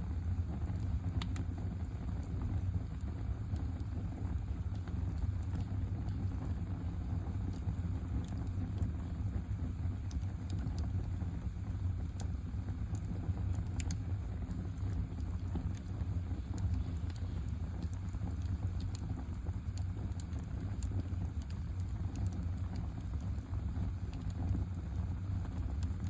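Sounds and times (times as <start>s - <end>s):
campfire crackling: 0.1s - 26.0s.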